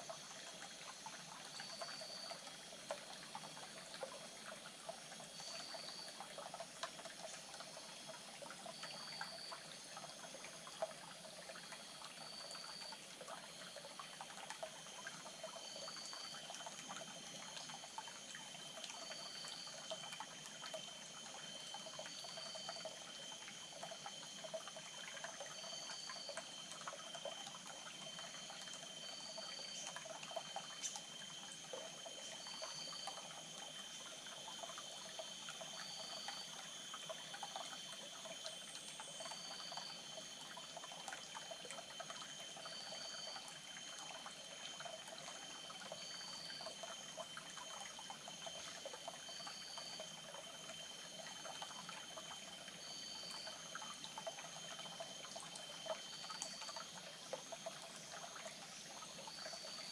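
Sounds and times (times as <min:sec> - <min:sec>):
stream trickling over rocks: 0:00.0 - 0:59.9.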